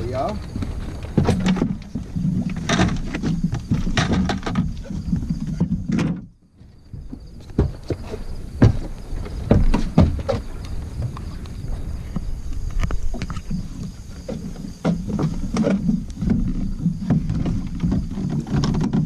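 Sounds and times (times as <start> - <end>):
gear knocking in a boat: 0.0 - 19.0.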